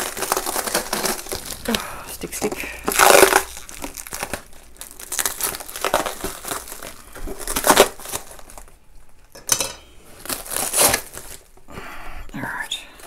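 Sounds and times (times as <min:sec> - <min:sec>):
plastic mailer bag crinkling: 0:00.0 - 0:09.2, 0:10.1 - 0:11.6.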